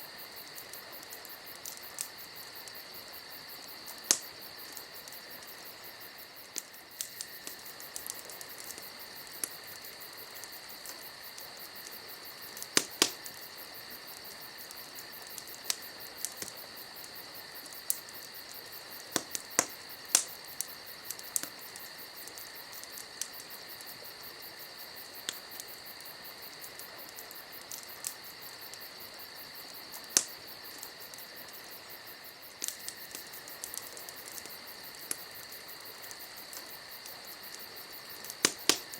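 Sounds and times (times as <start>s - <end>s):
campfire crackling and popping: 0.0s - 38.9s
insect chorus: 0.0s - 38.9s.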